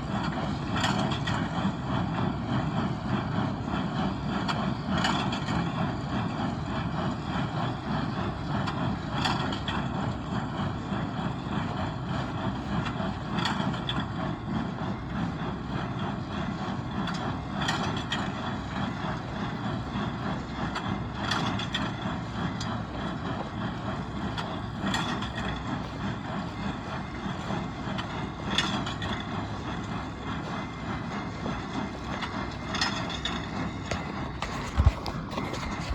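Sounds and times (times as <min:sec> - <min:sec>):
baler engine and clatter: 0:00.0 - 0:35.9.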